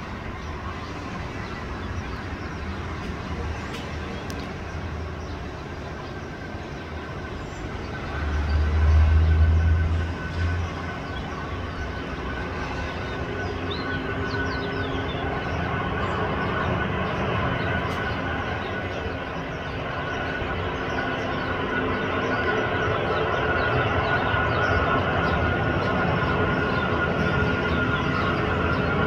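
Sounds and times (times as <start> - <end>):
distant jet engines rumbling: 0.0 - 29.0.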